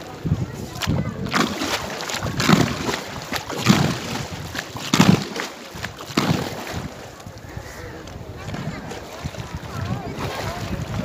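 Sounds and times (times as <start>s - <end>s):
paddle strokes splashing: 0.0s - 11.0s
water sloshing against hull: 0.0s - 11.0s.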